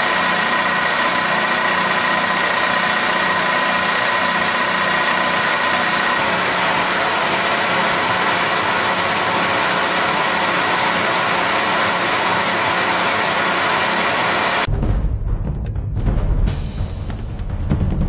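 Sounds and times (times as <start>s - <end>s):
film machine running: 0.0s - 14.7s.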